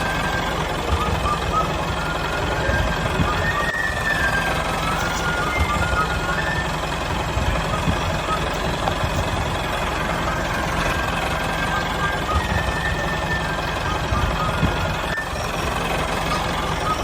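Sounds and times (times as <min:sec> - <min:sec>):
small engine knocking: 0:00.0 - 0:17.0.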